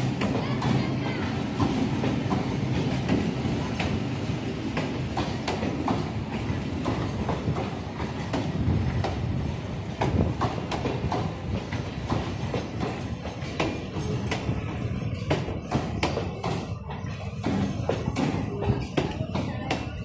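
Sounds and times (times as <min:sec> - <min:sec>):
train rumbling past: 0:00.0 - 0:20.0
wheels clacking on track: 0:00.0 - 0:20.0.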